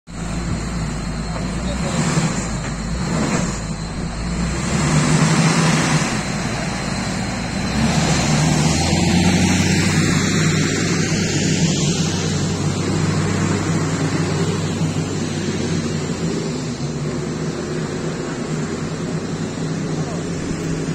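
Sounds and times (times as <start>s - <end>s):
heavy diesel engines running: 0.1s - 20.9s.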